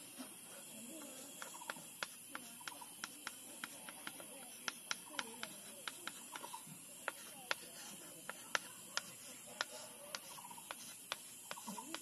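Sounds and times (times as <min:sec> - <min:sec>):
chalk tapping on chalkboard: 0:00.0 - 0:12.0.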